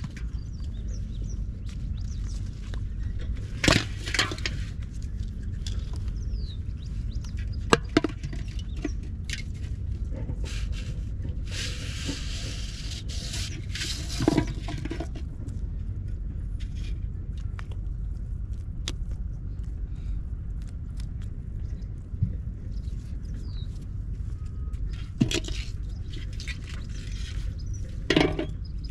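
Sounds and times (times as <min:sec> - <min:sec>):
steady low rumble: 0:00.0 - 0:28.9.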